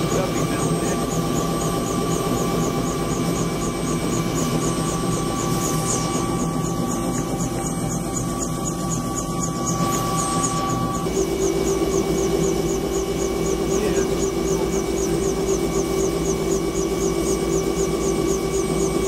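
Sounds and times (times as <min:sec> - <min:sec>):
helicopter turbine and rotor running: 0:00.0 - 0:19.0.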